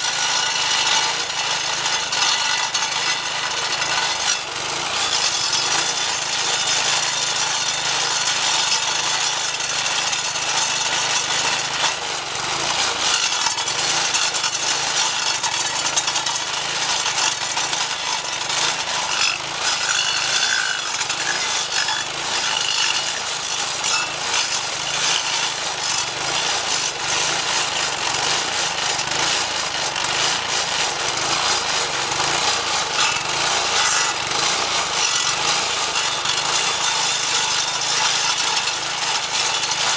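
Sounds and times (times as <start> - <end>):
blade grinding into wood stump: 0.0 - 39.9
small engine running under load: 0.0 - 39.9.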